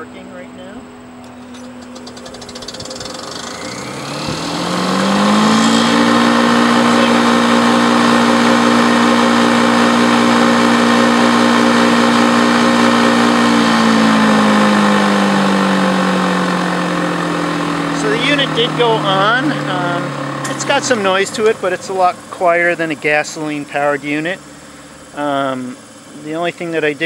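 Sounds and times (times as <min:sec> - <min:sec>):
wood chipper motor whirring: 0:00.7 - 0:27.0.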